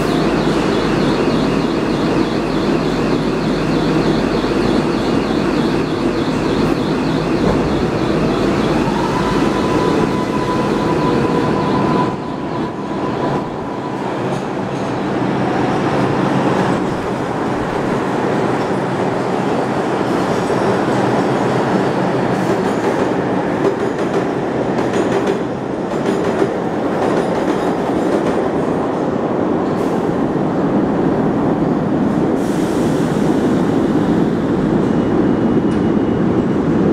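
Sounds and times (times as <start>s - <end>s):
high whine from train: 0.0s - 36.9s
subway train rumbling on rails: 0.0s - 36.9s.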